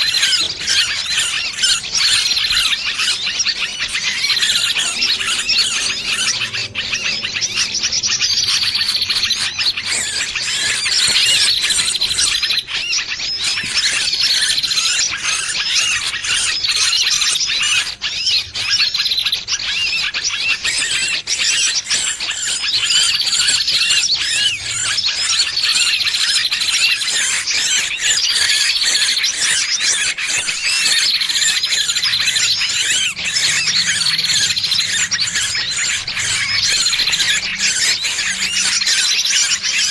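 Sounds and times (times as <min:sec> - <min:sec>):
small bird distress squealing: 0:00.0 - 0:39.9.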